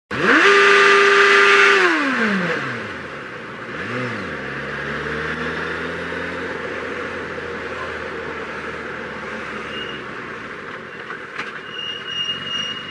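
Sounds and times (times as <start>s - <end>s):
motorcycle engine revving: 0.1s - 11.3s.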